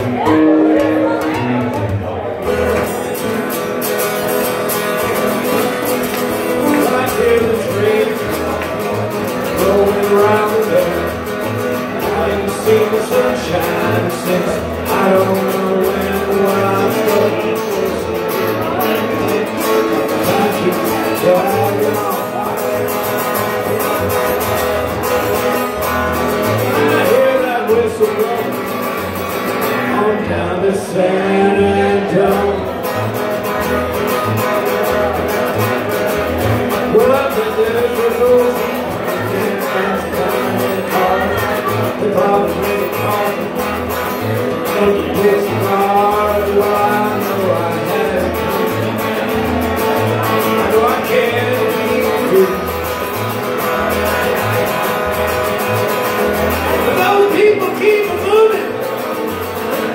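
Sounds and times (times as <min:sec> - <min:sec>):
acoustic guitar: 0:00.0 - 0:59.9
man singing country song: 0:00.0 - 0:59.9.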